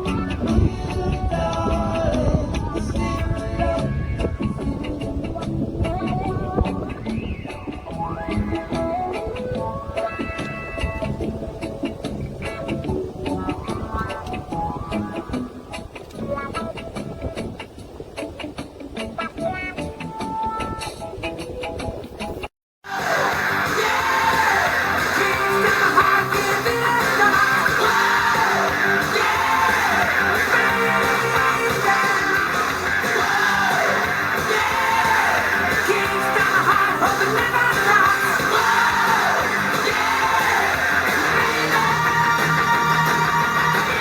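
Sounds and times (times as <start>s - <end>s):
song with guitar and singing: 0.0s - 44.0s.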